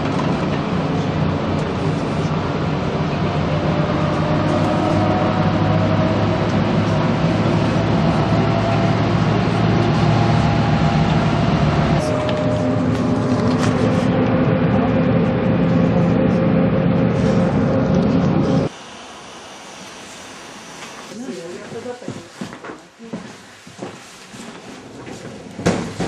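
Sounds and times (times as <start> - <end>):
coach engine and road drone: 0.0 - 21.2.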